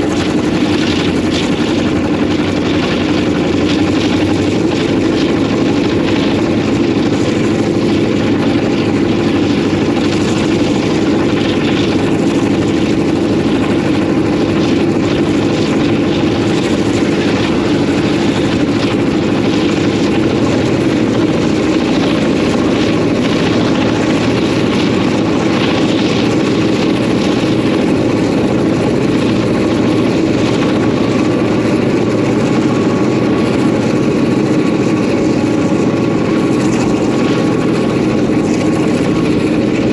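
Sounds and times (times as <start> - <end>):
locomotive diesel engine running: 0.0 - 39.9.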